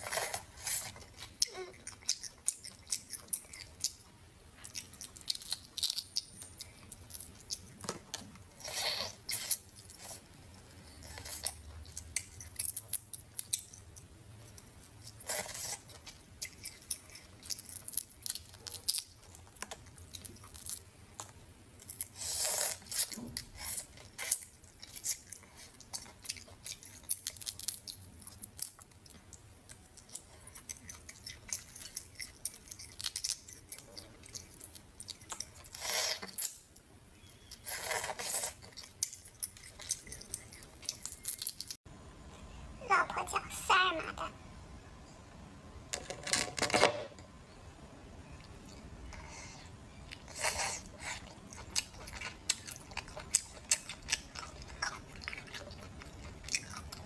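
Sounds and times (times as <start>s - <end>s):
chewing and crunching shell: 0.0s - 41.8s, 48.3s - 57.0s.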